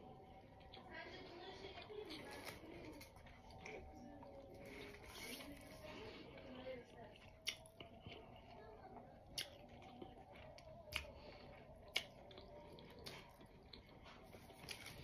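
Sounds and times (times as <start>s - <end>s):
close-up chewing: 0.0s - 15.0s.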